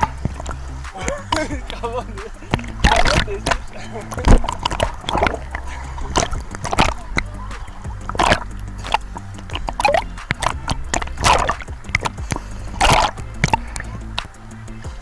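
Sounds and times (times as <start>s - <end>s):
low steady rumble: 0.0s - 15.0s
sea water splashing: 0.0s - 15.0s.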